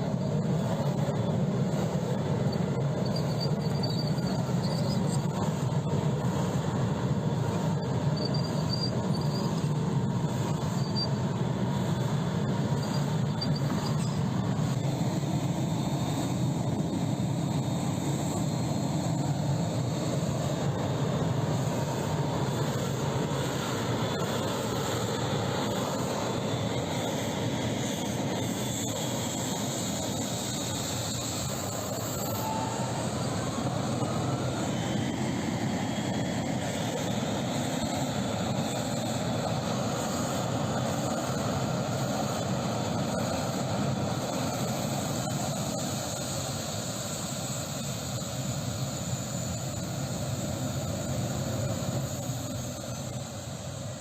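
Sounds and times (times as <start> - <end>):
turbine engine rumble with whine: 0.0 - 54.0.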